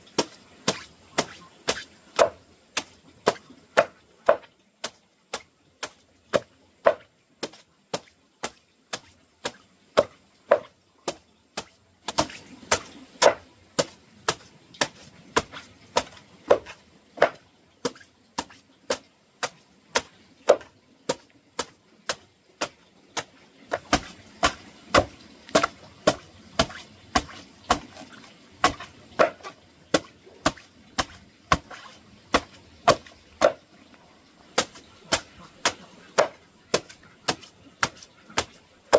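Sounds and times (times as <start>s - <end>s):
blade chopping onto wood: 0.2s - 28.0s, 28.6s - 33.6s, 34.6s - 38.6s.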